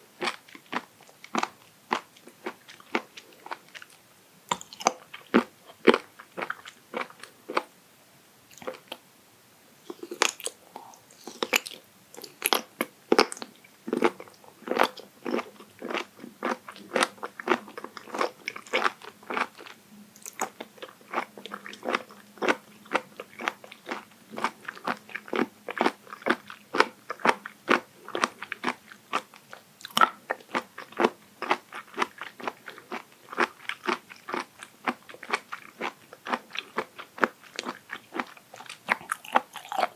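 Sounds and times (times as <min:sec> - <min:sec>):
crisp chewing crunches: 0:00.2 - 0:07.7, 0:09.9 - 0:39.9.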